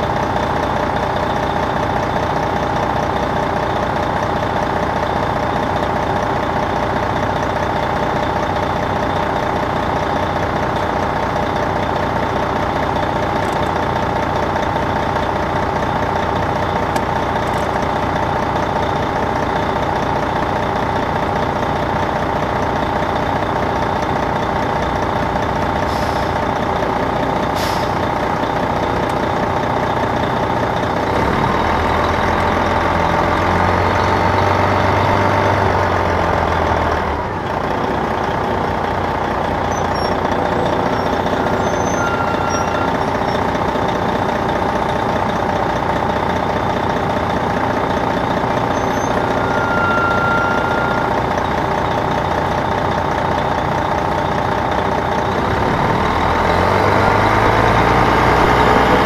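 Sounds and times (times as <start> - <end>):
diesel bus engine running: 0.0 - 59.0.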